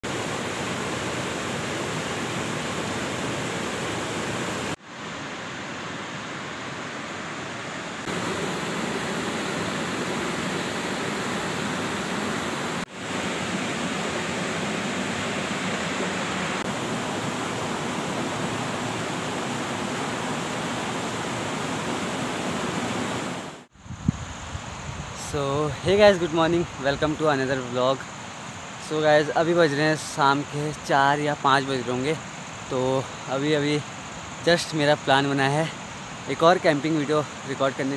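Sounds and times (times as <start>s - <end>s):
mountain river rushing: 0.0s - 23.7s, 24.3s - 37.9s.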